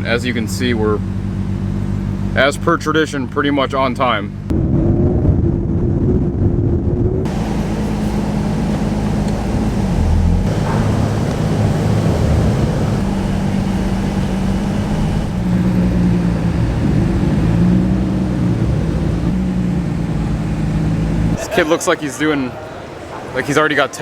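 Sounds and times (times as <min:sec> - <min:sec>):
car engine running at low speed: 0:00.0 - 0:21.4.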